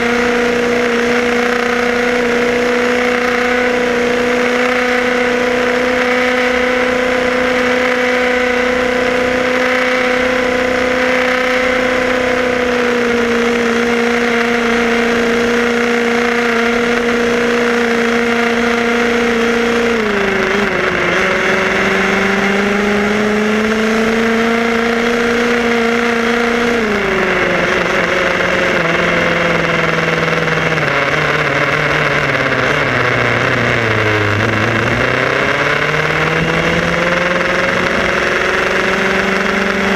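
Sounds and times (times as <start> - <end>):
two-stroke engine buzzing: 0.0 - 39.9.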